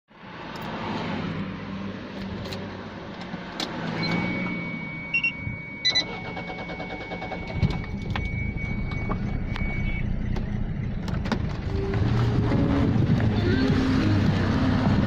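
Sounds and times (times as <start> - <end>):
car engine starting and idling: 1.9 - 15.0.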